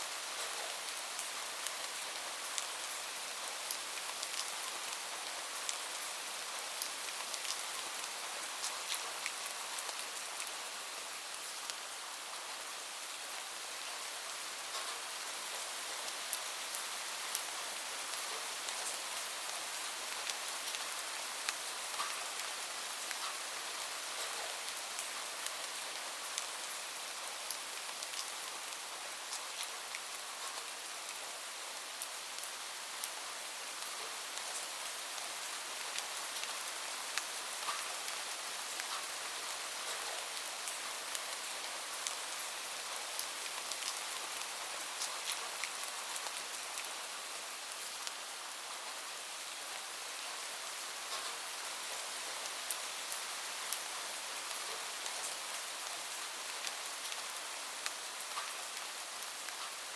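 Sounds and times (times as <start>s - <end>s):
steady rain hiss: 0.0s - 59.9s
raindrops ticking on a surface: 0.2s - 11.8s, 14.7s - 31.2s, 31.9s - 48.6s, 50.3s - 59.9s.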